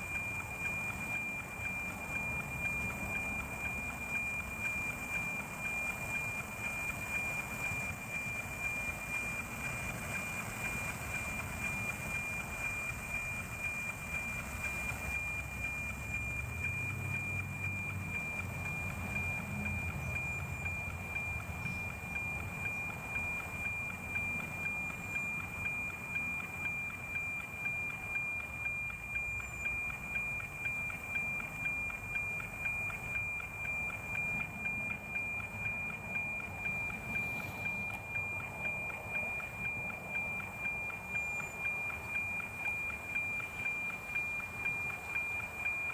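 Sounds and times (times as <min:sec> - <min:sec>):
regular tick-tock beat: 0:00.0 - 0:45.9.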